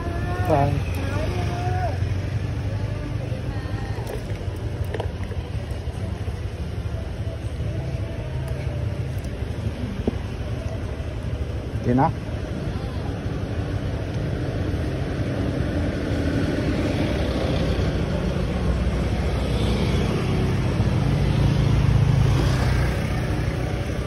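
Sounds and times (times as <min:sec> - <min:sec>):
scooter engine rumbling: 0:00.0 - 0:24.0
street traffic: 0:00.0 - 0:24.0.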